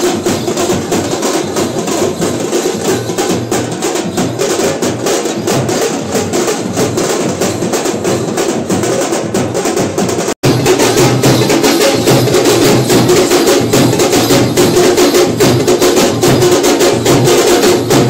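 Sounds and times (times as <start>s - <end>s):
fast stick drumming: 0.0s - 18.0s.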